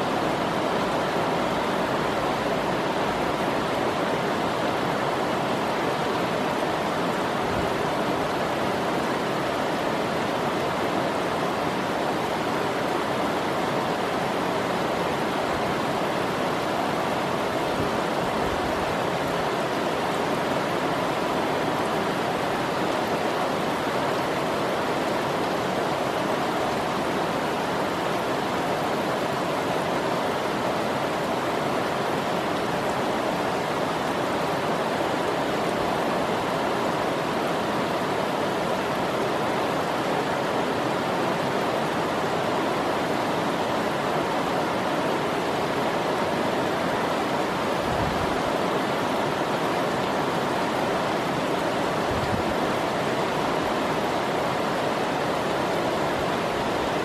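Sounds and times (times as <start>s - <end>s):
heavy rain on a sheet roof: 0.0s - 57.0s.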